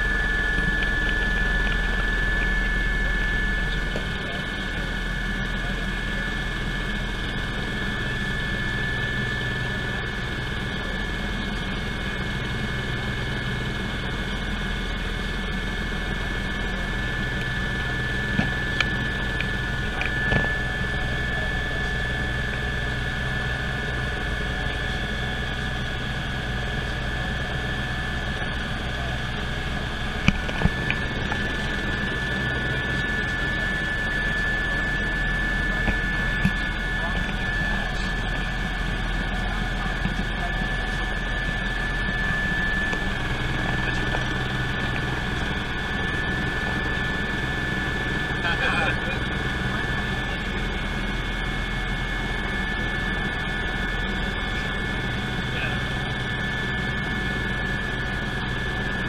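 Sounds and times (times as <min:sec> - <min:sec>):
helicopter cabin drone and whine: 0:00.0 - 0:59.0.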